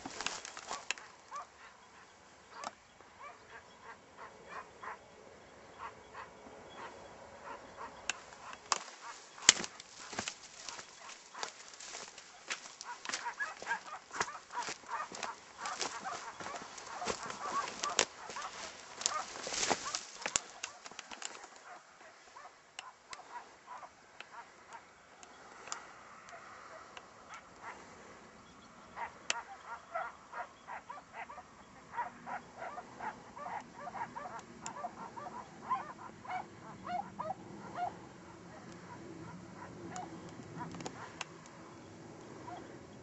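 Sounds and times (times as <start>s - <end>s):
hounds yelping bays: 0.0s - 5.0s, 5.7s - 25.0s, 25.8s - 27.8s, 28.9s - 43.0s.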